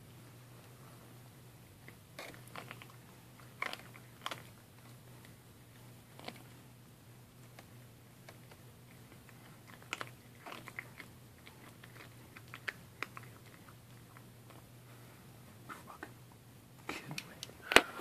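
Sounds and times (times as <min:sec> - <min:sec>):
cat crunching and chewing: 0:01.6 - 0:16.2.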